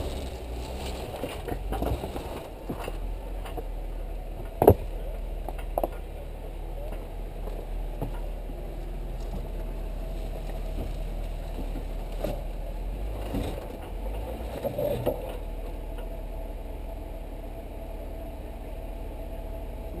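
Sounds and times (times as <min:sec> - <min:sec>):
car engine running low: 0:00.0 - 0:20.0.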